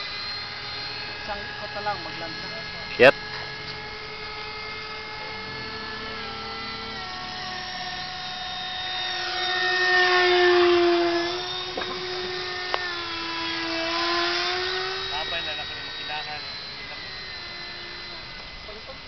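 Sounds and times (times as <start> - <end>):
electric ducted fan jets whining: 0.0 - 19.0.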